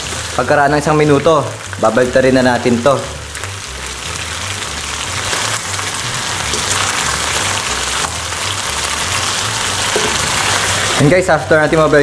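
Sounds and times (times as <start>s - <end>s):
background music with bass: 0.0s - 12.0s
chicken sizzling in hot oil: 0.0s - 12.0s.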